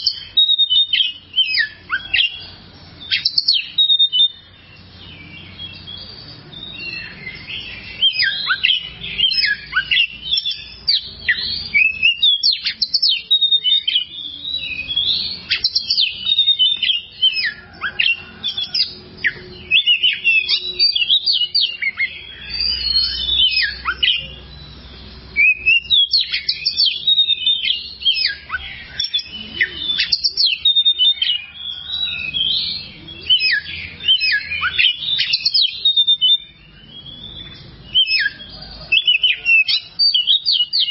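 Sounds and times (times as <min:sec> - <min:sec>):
bird singing chirps and whistles: 0:00.0 - 0:40.9.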